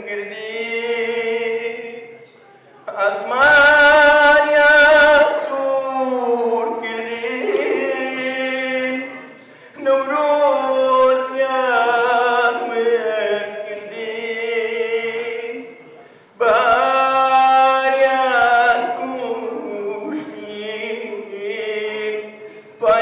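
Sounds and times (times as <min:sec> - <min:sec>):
man singing into a microphone: 0:00.0 - 0:23.0.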